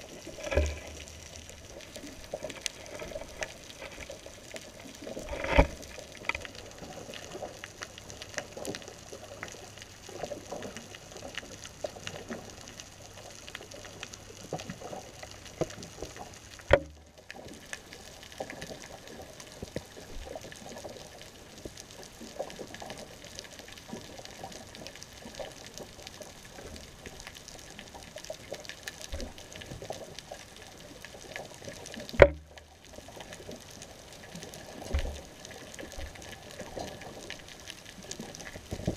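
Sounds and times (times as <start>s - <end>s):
muffled underwater crackling hiss: 0.0s - 38.9s.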